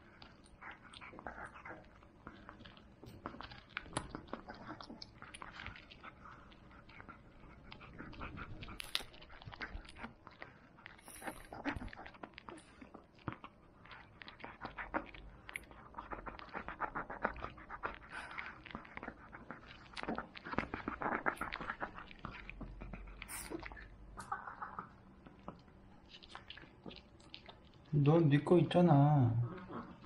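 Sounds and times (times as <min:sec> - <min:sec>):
dog crunching a bone: 0:00.0 - 0:28.9.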